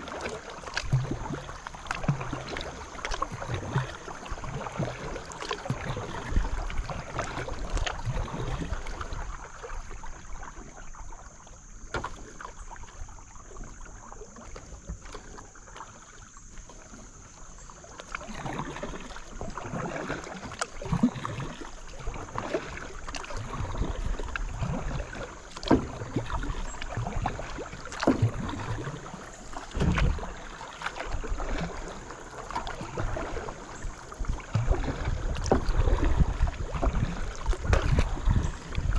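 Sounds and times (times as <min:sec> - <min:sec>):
water dripping off paddle: 0:00.0 - 0:10.8, 0:11.9 - 0:38.9
paddle strokes in water: 0:00.0 - 0:38.9.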